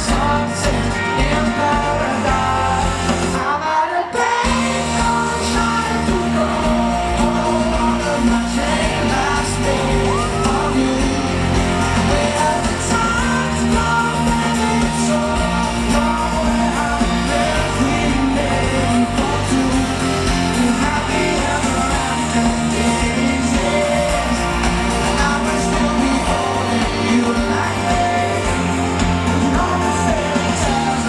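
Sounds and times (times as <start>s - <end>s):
pop song with singing and guitar: 0.0s - 31.0s.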